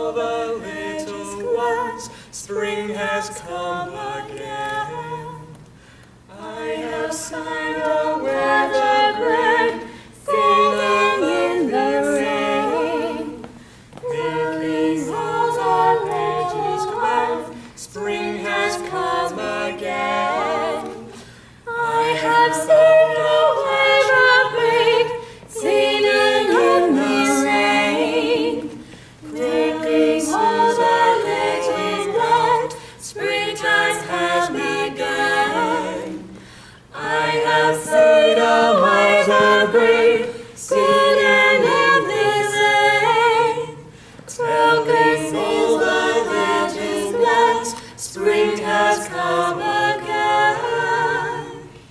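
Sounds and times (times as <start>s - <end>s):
voices singing a cappella harmony: 0.0s - 51.9s.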